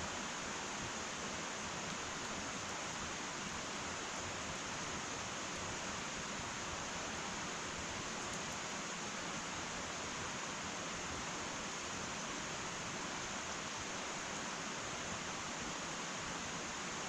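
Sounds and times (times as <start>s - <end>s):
faint fire crackles: 0.0s - 17.0s.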